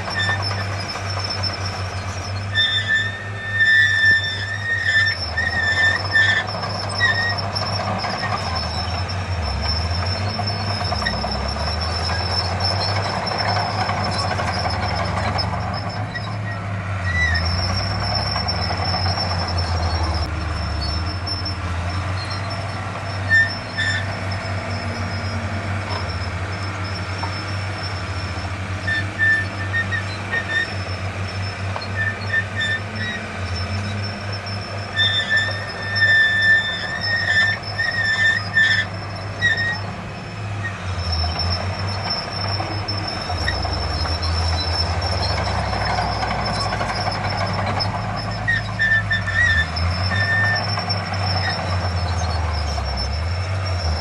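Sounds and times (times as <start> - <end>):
diesel engine running: 0.0 - 54.0
high metallic squeal: 0.0 - 54.0
short machinery squeaks: 0.0 - 54.0.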